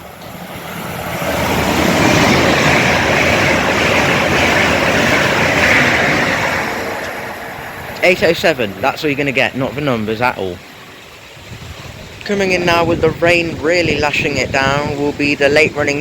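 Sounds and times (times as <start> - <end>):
electric train passing at speed: 0.0 - 16.0.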